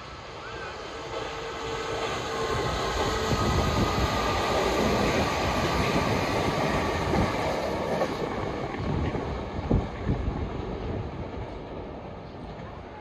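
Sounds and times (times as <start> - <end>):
electric train passing on viaduct: 0.0 - 13.0.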